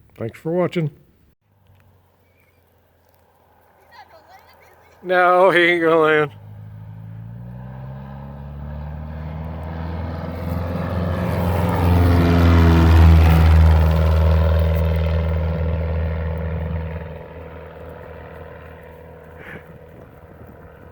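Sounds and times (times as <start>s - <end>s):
small propeller airplane flying past: 1.5s - 20.9s.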